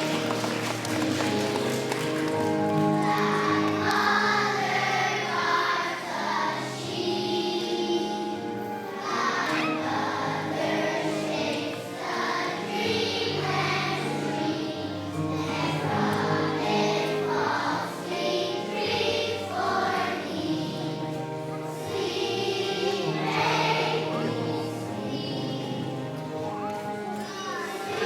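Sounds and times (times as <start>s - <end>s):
children's choir singing: 0.0s - 28.0s
instrumental accompaniment: 0.0s - 28.0s.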